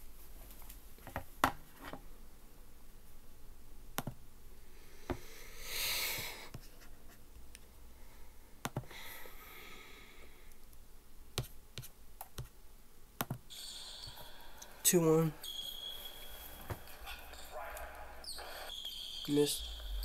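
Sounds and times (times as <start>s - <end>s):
soft hiss: 2.0s - 20.0s.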